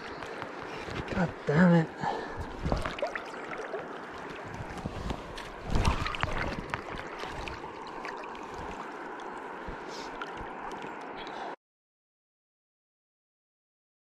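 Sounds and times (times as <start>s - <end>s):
river water flowing and gurgling: 0.0s - 11.6s.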